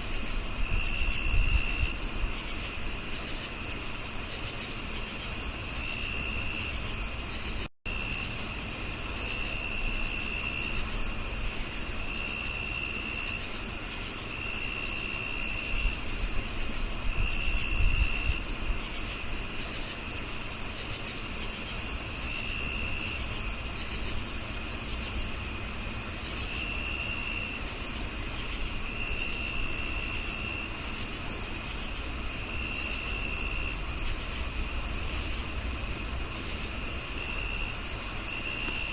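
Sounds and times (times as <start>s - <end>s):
crickets quick chirping: 0.0s - 38.9s
low cricket trill: 0.0s - 38.9s.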